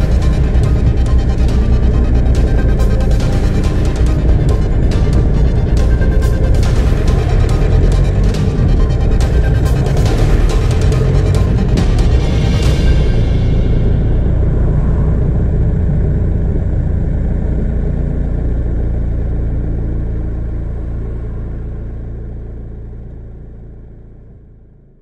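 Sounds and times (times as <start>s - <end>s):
vehicle rumble with road noise: 0.0s - 25.0s.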